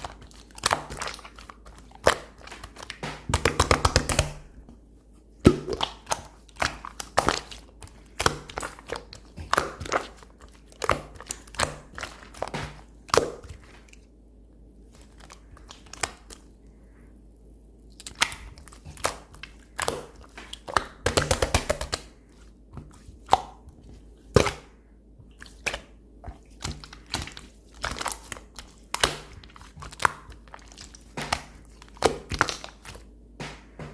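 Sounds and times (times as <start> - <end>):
slime squished by hand: 0.0 - 4.6, 5.4 - 14.2, 14.8 - 17.0, 17.8 - 33.9.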